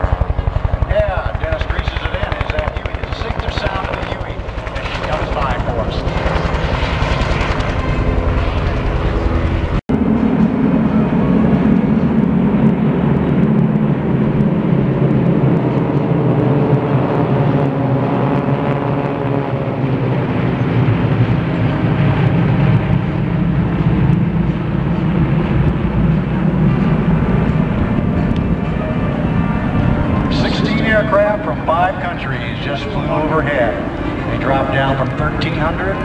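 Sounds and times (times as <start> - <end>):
helicopter rotor beating: 0.0 - 36.0
propeller planes droning overhead: 0.0 - 36.0.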